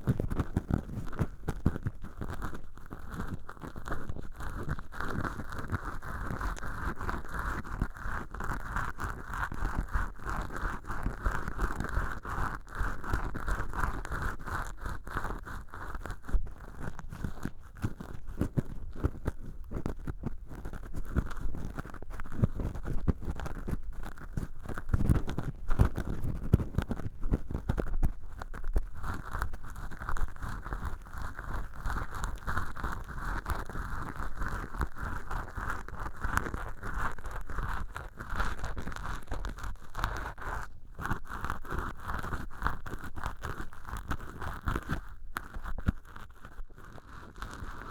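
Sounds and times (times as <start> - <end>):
cotton swab scratching sponge: 0.4 - 47.9.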